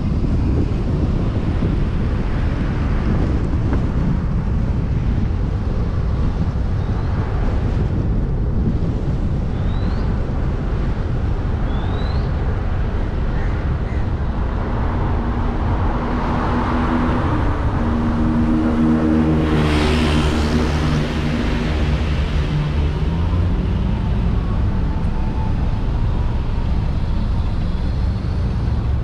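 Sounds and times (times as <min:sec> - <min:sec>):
engine drone: 0:00.0 - 0:29.0
road and wind noise: 0:00.0 - 0:29.0.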